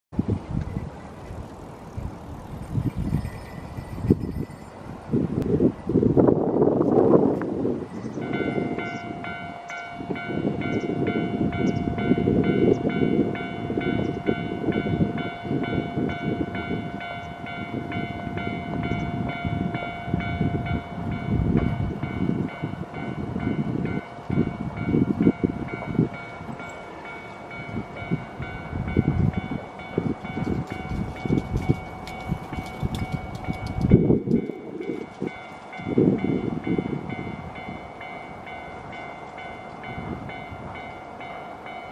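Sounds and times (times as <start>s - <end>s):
level-crossing warning bell: 2.4s - 7.2s, 7.9s - 41.9s.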